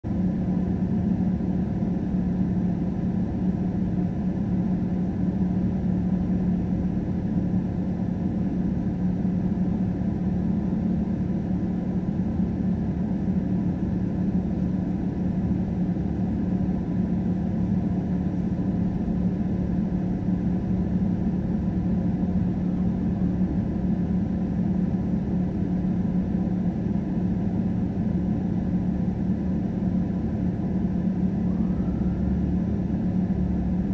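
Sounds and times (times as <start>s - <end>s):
car engine idling drone: 0.1s - 33.9s.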